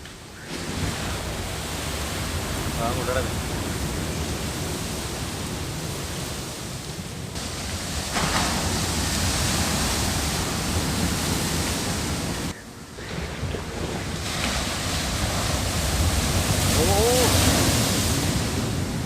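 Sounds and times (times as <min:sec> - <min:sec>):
rough sea surf: 0:00.0 - 0:19.0
wind buffeting microphone: 0:00.0 - 0:19.0.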